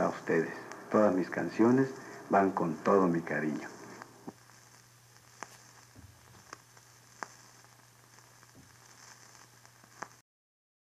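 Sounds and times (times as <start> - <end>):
recording hiss: 0.0 - 10.2.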